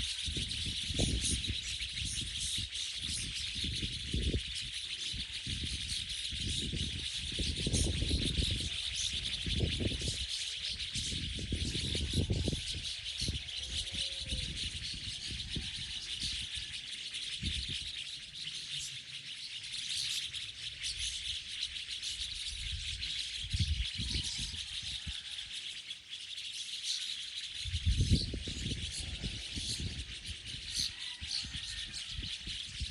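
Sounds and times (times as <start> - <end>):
many small birds chirping: 0.0 - 32.9.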